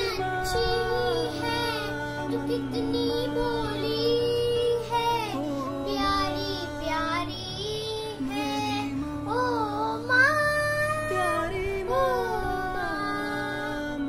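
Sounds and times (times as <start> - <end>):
girl singing: 0.0 - 14.0
recorded backing music: 0.0 - 14.0.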